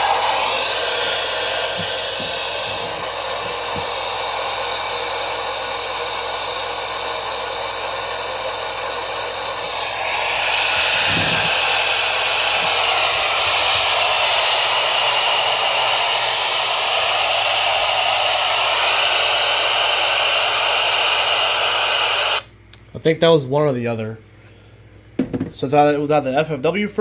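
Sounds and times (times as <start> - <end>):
radio static hiss: 0.0 - 22.4.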